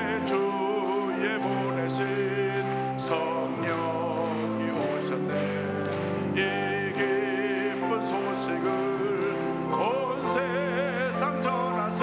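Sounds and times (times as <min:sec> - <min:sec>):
person singing with vibrato: 0:00.0 - 0:12.0
sustained instrumental accompaniment: 0:00.0 - 0:12.0.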